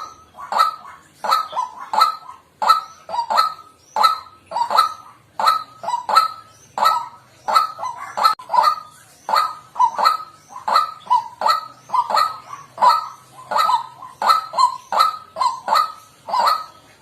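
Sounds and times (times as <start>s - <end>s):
waterhen harsh calls: 0.0s - 17.0s.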